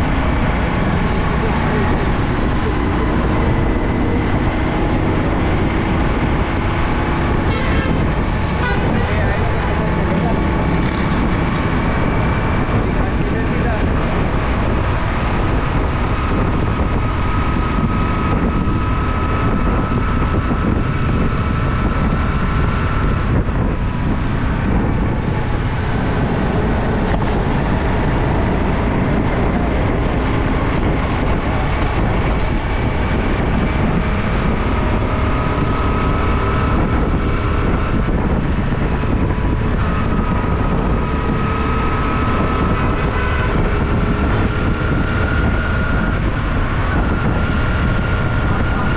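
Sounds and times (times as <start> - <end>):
faint whining traffic: 0.0 - 48.9
motorcycle engine riding: 0.0 - 48.9.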